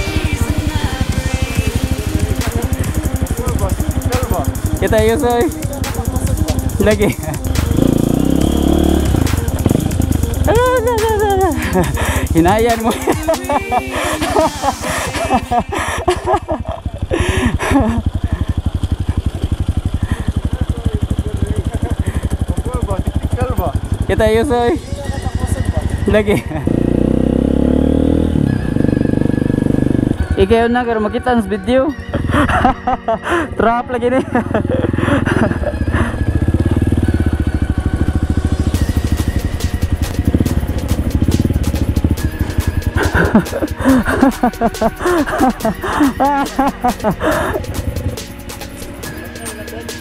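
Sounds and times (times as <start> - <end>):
motorcycle engine chugging: 0.0 - 50.0.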